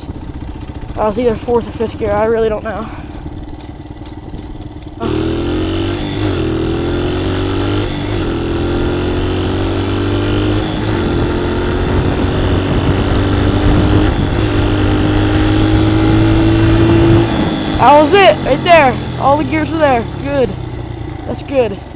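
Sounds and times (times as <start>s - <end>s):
dirt bike engine accelerating: 0.0s - 21.9s.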